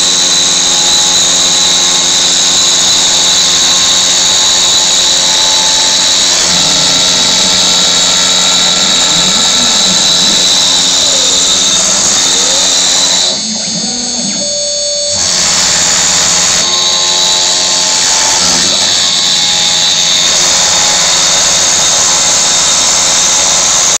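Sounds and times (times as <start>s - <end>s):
axis motors tones: 0.0s - 24.0s
router spindle high whine: 0.0s - 24.0s.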